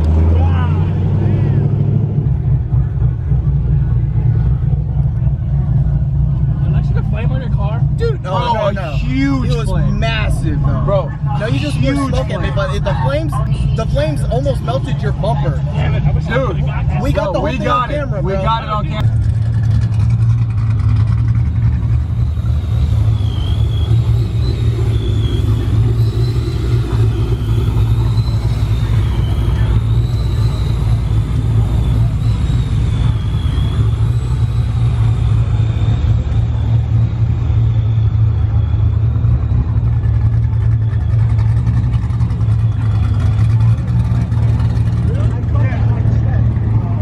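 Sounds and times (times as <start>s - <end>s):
vehicle engine droning: 0.0s - 47.0s.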